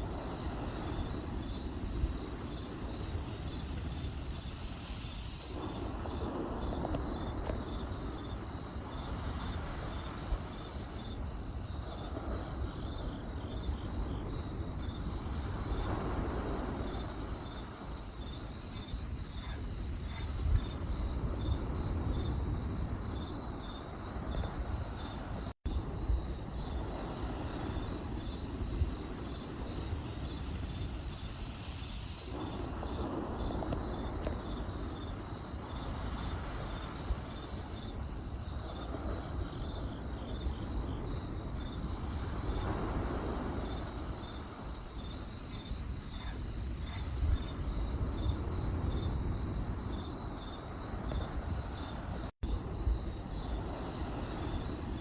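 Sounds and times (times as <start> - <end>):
fire crackles and pops: 0.0 - 46.8
campfire low rumble: 0.0 - 55.0
crickets chirping: 0.0 - 55.0.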